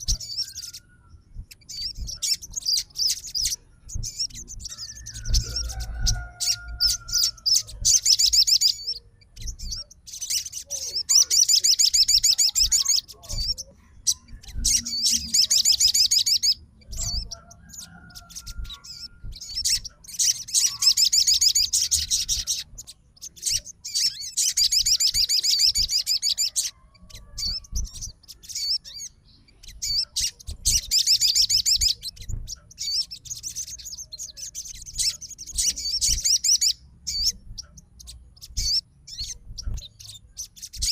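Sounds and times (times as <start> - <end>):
bird chattering: 0.0 - 40.9.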